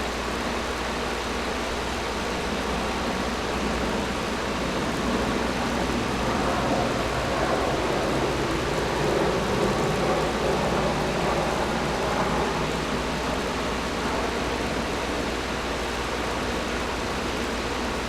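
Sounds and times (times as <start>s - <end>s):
air conditioner running: 0.0s - 18.0s.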